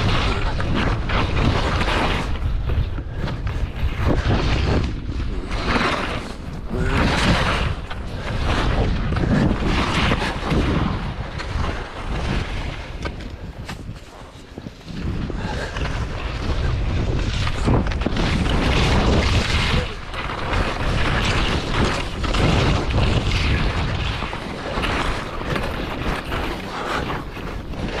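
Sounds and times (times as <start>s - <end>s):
skis scraping across snow: 0.0s - 28.0s
wind buffeting microphone: 0.0s - 28.0s.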